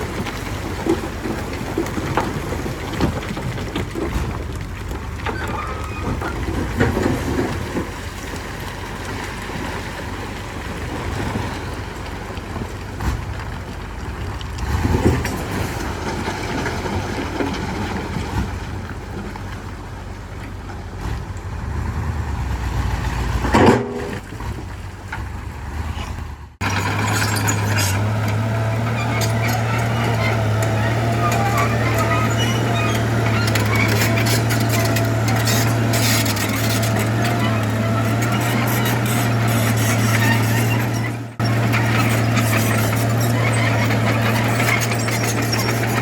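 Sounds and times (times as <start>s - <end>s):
diesel machinery running: 0.0s - 46.0s.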